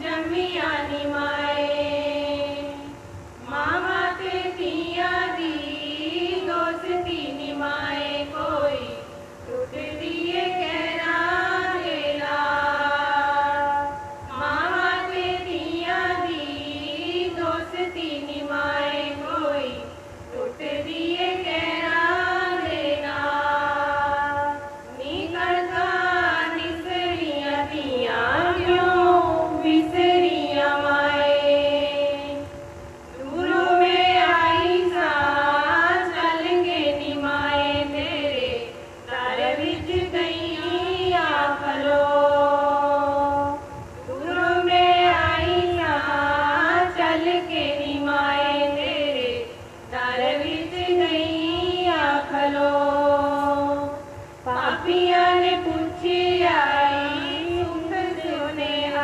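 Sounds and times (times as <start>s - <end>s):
women singing folk song: 0.0s - 59.0s.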